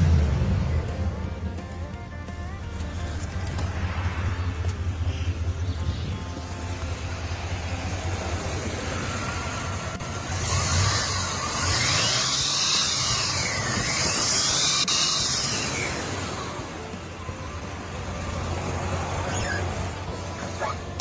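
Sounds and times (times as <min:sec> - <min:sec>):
car engine humming: 0:00.0 - 0:21.0
hissing rush: 0:00.0 - 0:21.0.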